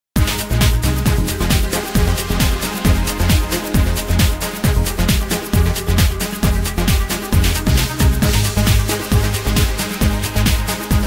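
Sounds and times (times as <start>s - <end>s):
electronic music with fast beat: 0.2s - 11.0s.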